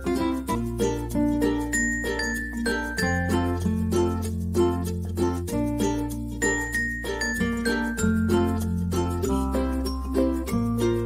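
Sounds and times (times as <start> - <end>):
light tune over held bass: 0.0 - 11.0.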